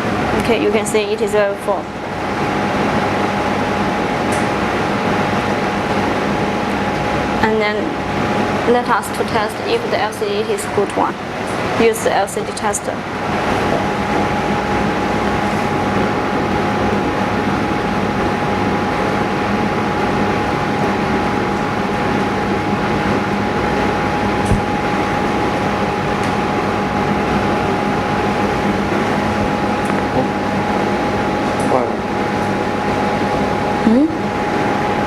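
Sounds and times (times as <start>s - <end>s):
high whine: 0.0s - 35.0s
steady machine hum: 0.0s - 35.0s.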